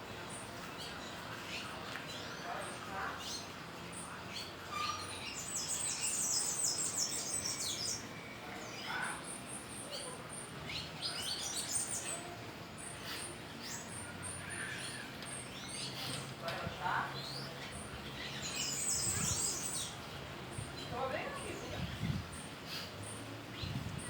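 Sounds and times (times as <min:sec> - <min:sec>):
faint outdoor background: 0:00.0 - 0:24.0
birds chirping and trilling: 0:00.1 - 0:24.0.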